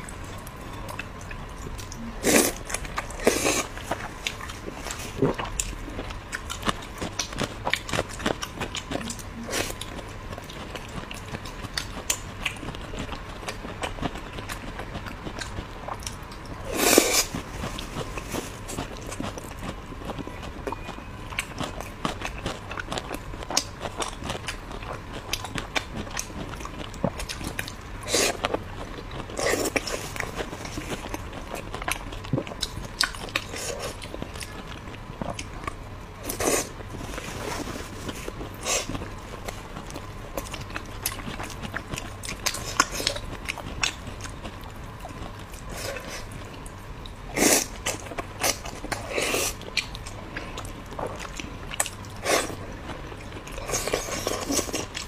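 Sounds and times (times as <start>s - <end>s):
close-miked chewing: 0.0s - 55.0s.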